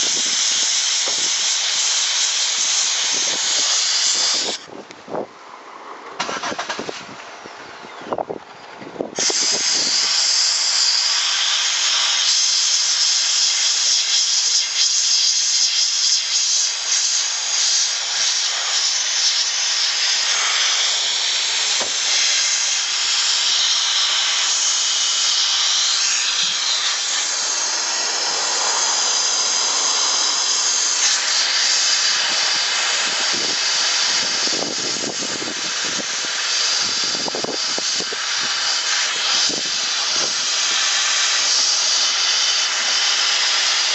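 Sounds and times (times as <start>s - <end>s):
sandblasting gun hissing: 0.0s - 4.7s, 6.2s - 7.1s, 9.1s - 43.9s.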